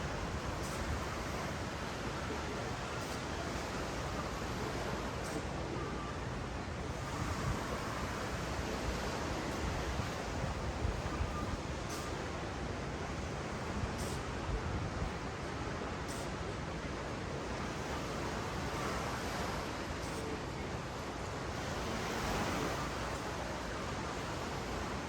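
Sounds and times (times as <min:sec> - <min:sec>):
small waves on a beach: 0:00.0 - 0:25.0.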